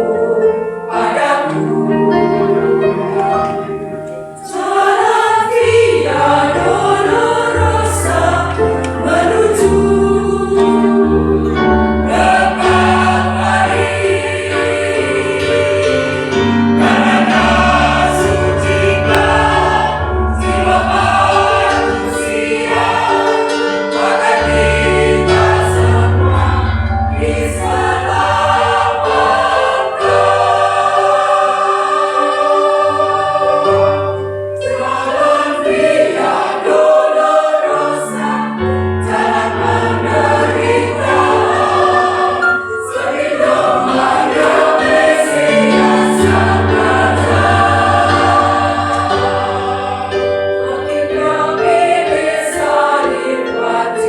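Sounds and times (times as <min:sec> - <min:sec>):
church choir singing: 0:00.0 - 0:54.0.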